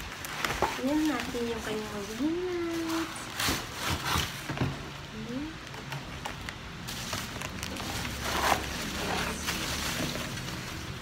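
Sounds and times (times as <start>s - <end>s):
bubble wrap rustling and crinkling: 0.0s - 11.0s.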